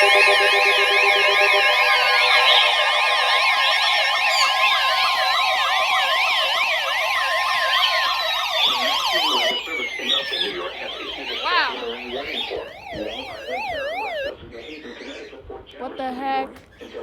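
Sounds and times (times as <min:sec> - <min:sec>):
electronic alert sirens: 0:00.0 - 0:14.3.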